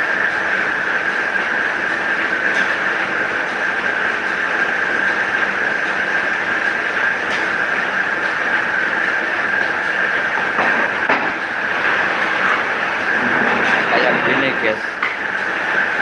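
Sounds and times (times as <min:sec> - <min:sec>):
high machine whine: 0:00.0 - 0:16.0
paper guillotine running: 0:00.3 - 0:16.0.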